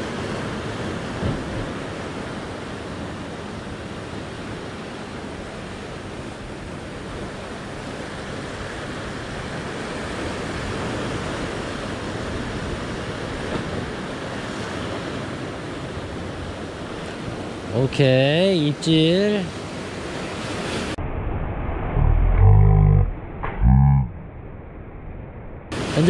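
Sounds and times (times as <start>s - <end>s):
ocean surf over rocks: 0.0s - 21.0s, 25.7s - 26.0s.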